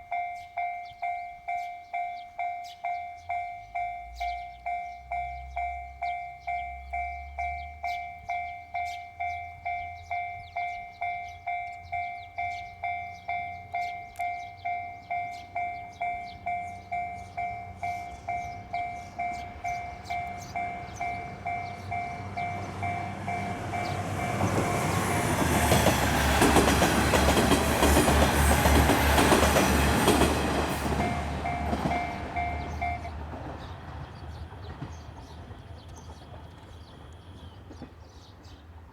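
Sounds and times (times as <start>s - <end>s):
level-crossing warning bell: 0.0s - 37.5s
diesel train passing: 0.0s - 38.9s.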